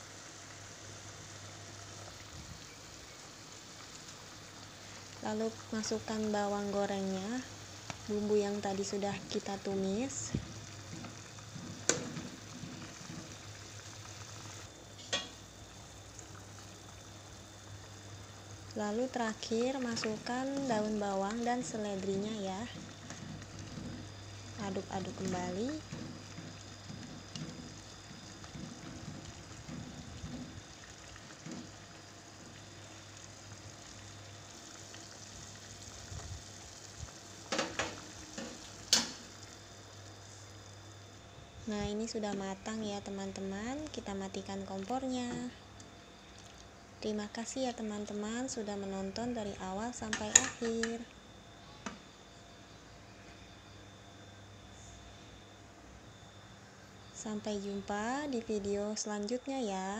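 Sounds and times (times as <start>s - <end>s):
soup simmering hiss: 0.0s - 59.5s
low steady hum: 0.0s - 59.9s.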